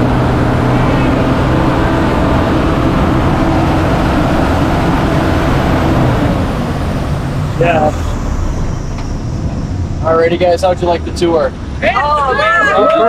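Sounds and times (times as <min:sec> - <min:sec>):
large vehicle engine humming: 0:00.0 - 0:13.0.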